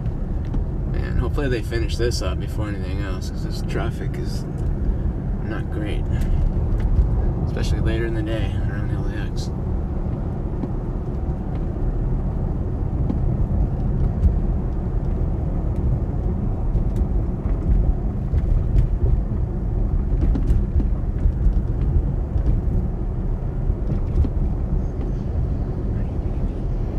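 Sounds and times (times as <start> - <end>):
road traffic rumble: 0.0 - 26.9.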